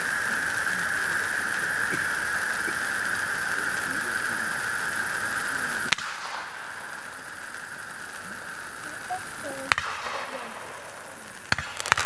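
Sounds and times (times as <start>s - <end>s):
fireworks fountains hissing: 0.0s - 12.0s.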